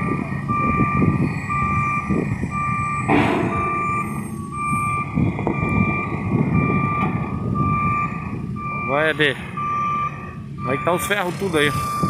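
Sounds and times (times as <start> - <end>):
diesel engine rumble: 0.0 - 12.0
reversing alarm beeping: 0.0 - 12.0.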